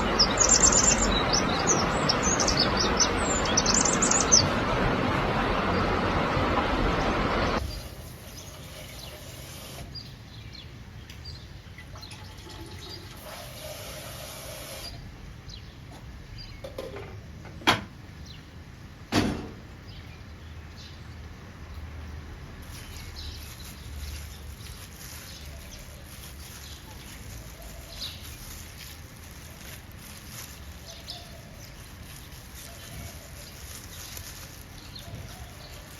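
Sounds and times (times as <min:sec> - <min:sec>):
faint background noise: 0:00.0 - 0:35.9.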